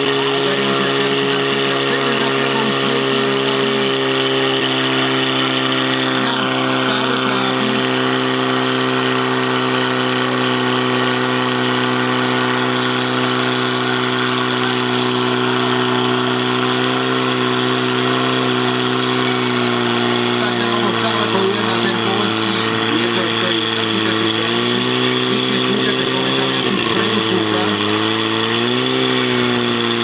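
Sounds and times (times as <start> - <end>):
pump engine droning: 0.0 - 30.0.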